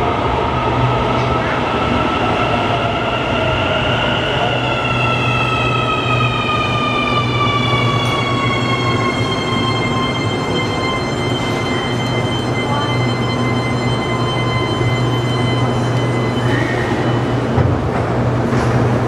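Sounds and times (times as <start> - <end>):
metro train motors whining: 0.0 - 19.0
train rolling rumble: 0.0 - 19.0.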